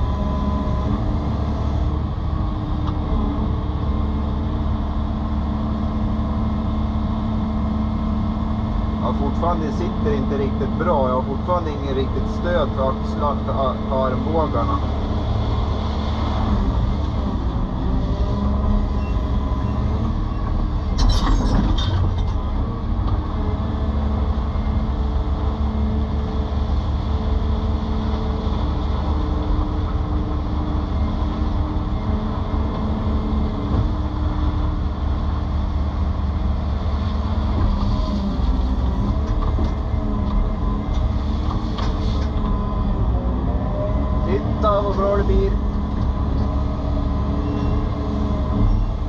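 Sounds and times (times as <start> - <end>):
excavator engine and hydraulics: 0.0 - 49.0.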